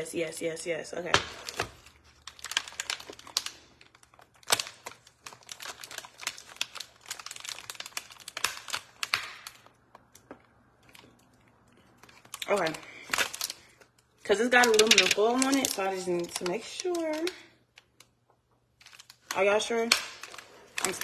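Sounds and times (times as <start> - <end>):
aluminum foil crinkling: 1.0 - 21.0.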